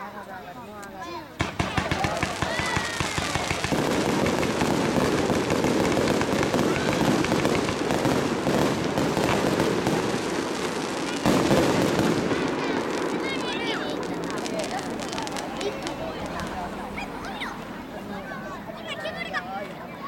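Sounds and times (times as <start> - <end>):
fireworks crackling: 0.1 - 19.1.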